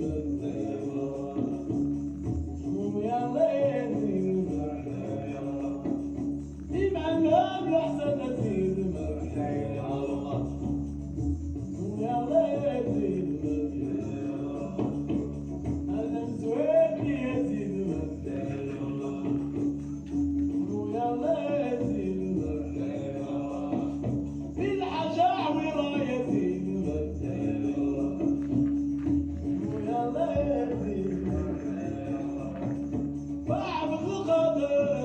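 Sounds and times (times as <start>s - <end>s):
man singing: 0.0s - 10.8s, 11.7s - 20.0s, 20.6s - 35.0s.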